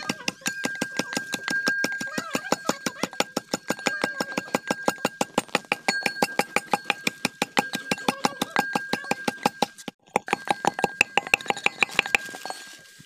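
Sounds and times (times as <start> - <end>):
pestle pounding in metal can: 0.0 - 12.4.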